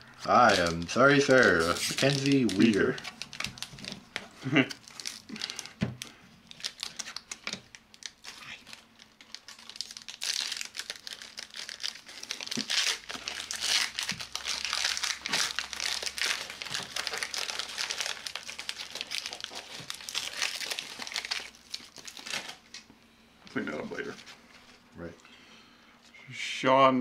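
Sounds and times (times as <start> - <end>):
foil wrapper crinkling: 0.0 - 22.8.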